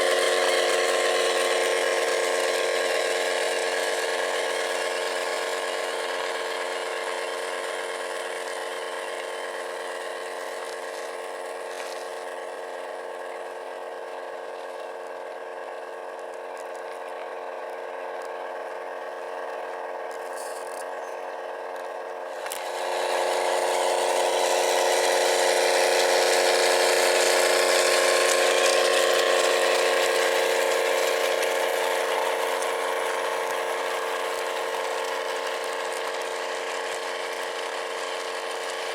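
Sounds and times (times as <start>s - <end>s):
small electric motors whining: 0.0s - 38.9s.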